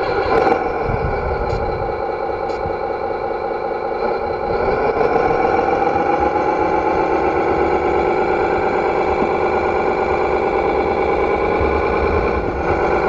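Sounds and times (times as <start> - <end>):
simulated diesel truck engine: 0.0 - 13.0.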